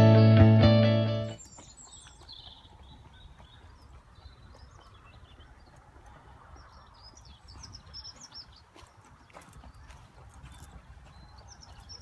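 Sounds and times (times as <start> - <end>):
small birds chirping: 1.2 - 12.0.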